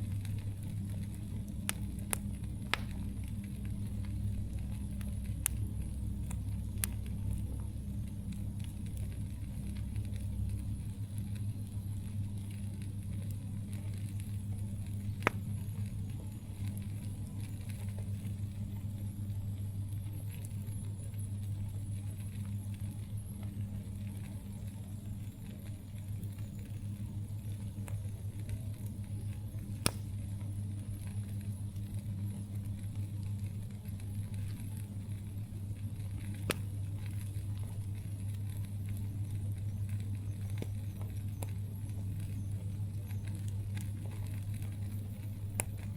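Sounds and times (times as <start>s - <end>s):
burning wood popping: 0.0s - 45.9s
campfire rumble: 0.0s - 45.9s.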